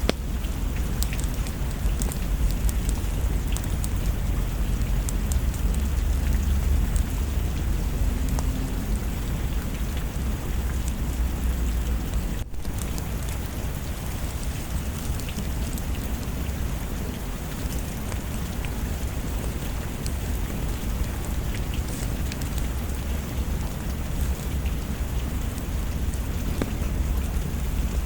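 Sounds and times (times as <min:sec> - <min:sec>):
light ticks of raindrops: 0:00.0 - 0:28.0
steady rain: 0:00.0 - 0:28.0.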